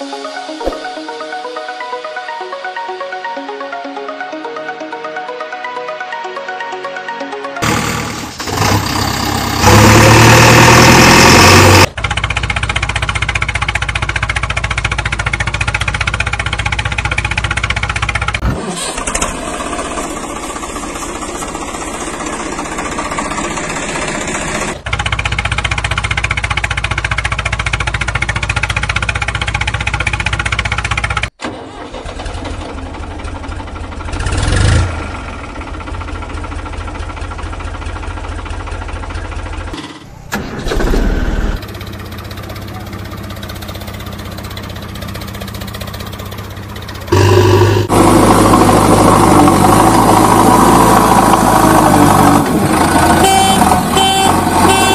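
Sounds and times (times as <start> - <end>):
engine running: 7.6 - 54.9.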